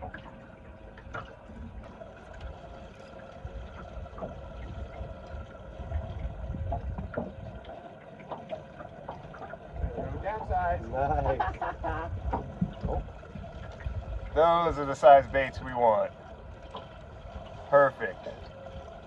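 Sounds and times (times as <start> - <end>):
water gurgling around a boat: 0.0 - 19.0.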